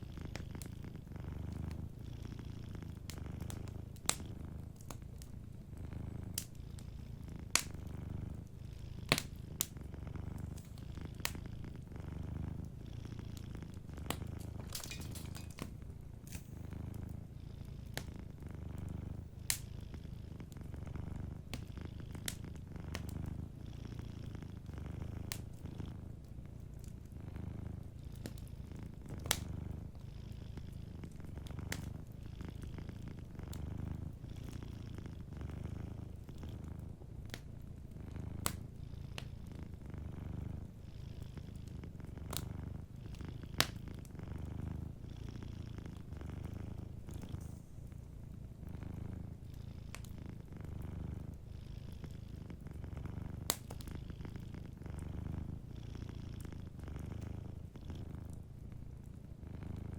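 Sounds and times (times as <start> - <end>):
cat purring: 0.0 - 59.9
wood fire popping and crackling: 2.8 - 29.9, 30.5 - 39.8, 41.4 - 47.5, 48.5 - 51.4, 52.3 - 55.6.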